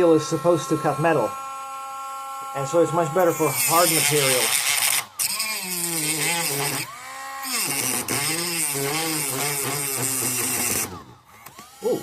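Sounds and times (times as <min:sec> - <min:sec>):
rotary tool grinding plastic: 0:00.0 - 0:12.0.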